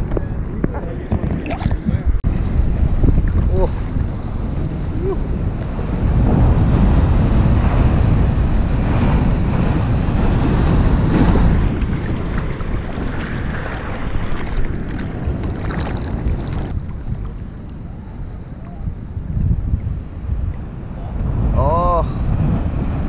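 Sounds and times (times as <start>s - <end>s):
big waves breaking: 0.0s - 23.0s
wind buffeting microphone: 0.0s - 23.0s.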